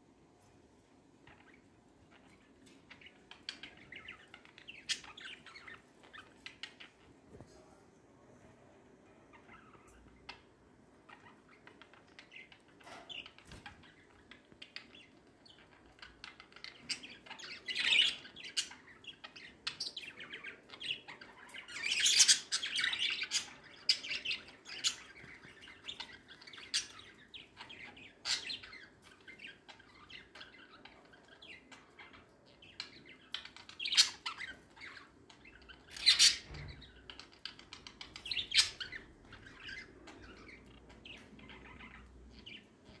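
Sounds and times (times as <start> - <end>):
budgerigars chirping: 1.2 - 7.1, 9.3 - 43.0.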